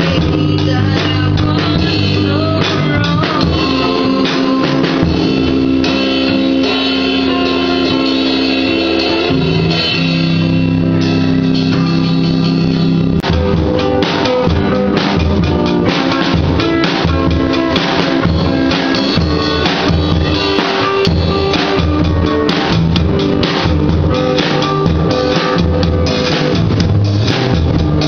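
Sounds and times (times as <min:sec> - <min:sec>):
drum kit beat: 0:00.0 - 0:28.0
electric guitar chords: 0:00.0 - 0:28.0.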